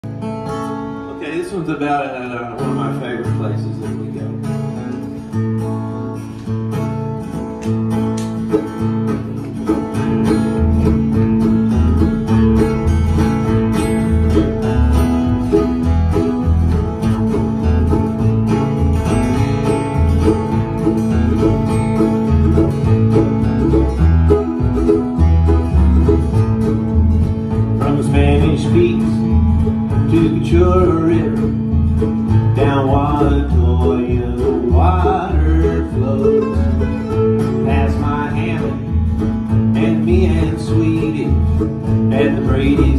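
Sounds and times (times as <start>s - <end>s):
mandolin: 0.0s - 42.9s
strummed acoustic guitars: 0.0s - 42.9s
upright bass plucking low notes: 0.0s - 42.9s.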